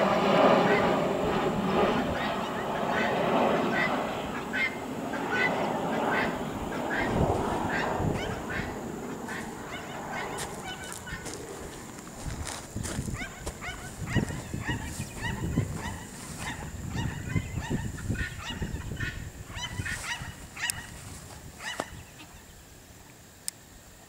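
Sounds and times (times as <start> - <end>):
guineafowl flock calling: 0.0 - 1.0, 1.8 - 22.7.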